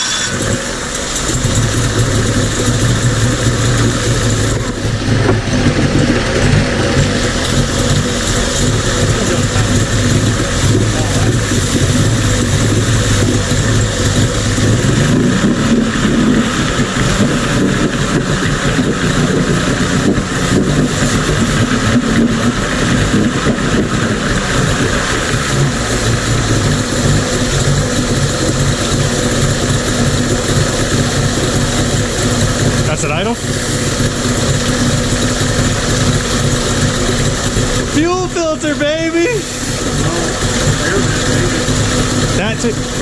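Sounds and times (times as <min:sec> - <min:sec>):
outboard motor idling: 0:00.0 - 0:43.0.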